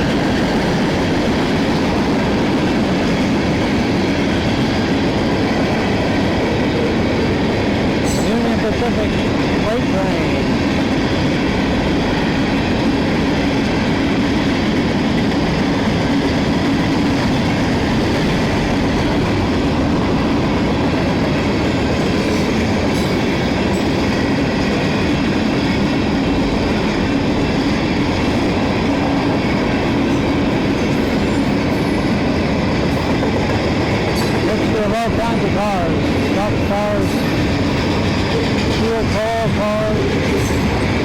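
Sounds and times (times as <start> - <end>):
freight train passing on rails: 0.0 - 41.0.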